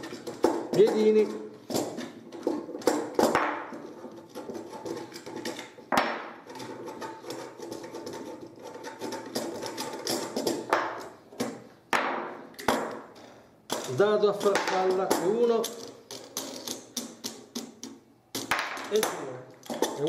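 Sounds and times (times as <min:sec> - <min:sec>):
metal rods clinking and knocking: 0:00.0 - 0:20.0.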